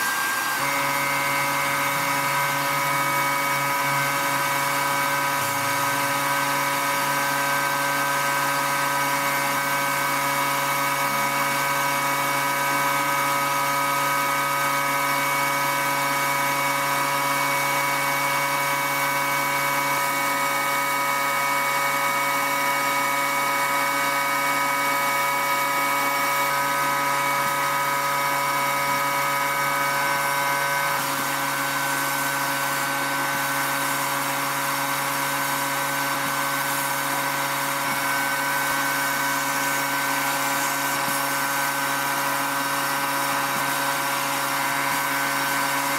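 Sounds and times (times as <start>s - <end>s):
sandblasting hiss of air and grit: 0.0s - 45.9s
steady machine hum: 0.0s - 45.9s.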